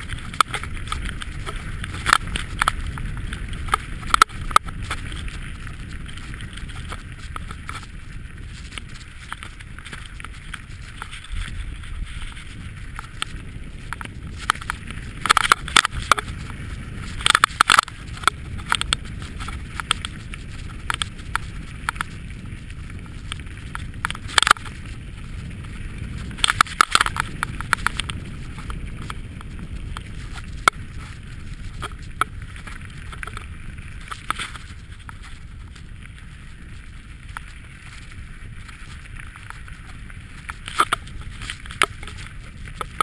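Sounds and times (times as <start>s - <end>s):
bike clattering over bumps: 0.0s - 36.8s
wind and tyres on gravel: 0.0s - 43.0s.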